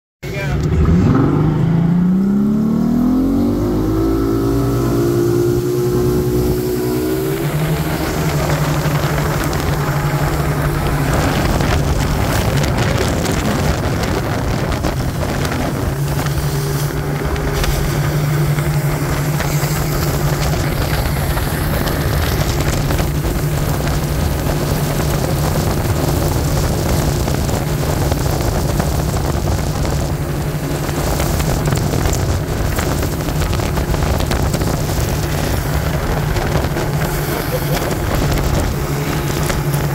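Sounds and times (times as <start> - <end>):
boat engine accelerating: 0.2 - 39.9
wind noise: 0.8 - 39.9
rushing water spray: 4.4 - 39.9.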